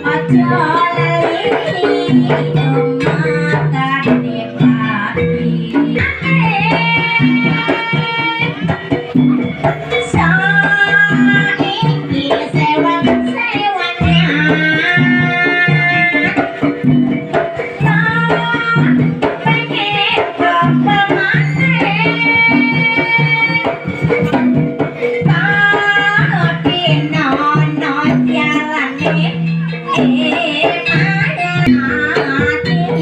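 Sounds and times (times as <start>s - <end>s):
hand drums beating: 0.0s - 33.0s.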